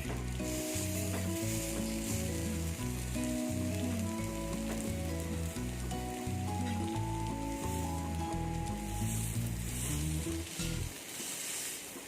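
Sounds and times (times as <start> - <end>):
background music with bass line: 0.0 - 10.9
chicken sizzling in hot oil: 0.0 - 12.0.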